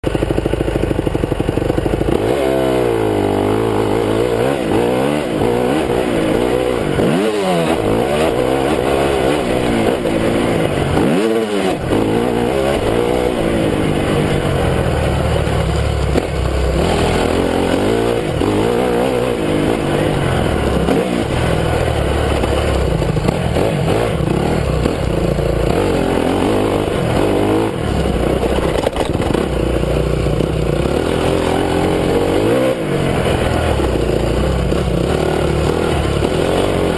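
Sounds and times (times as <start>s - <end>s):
motocross engine revving: 0.1s - 36.9s.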